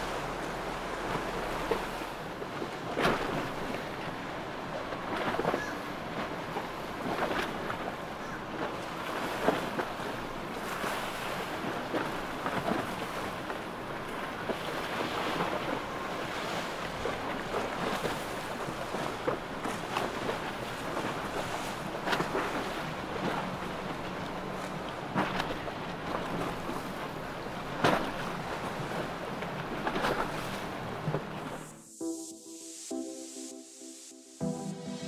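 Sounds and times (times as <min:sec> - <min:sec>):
rushing water and waves: 0:00.0 - 0:35.0.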